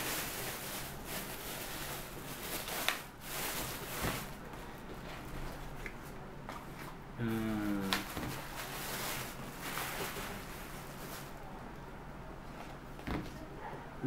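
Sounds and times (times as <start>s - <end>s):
plastic bag rustling: 0.0s - 11.5s.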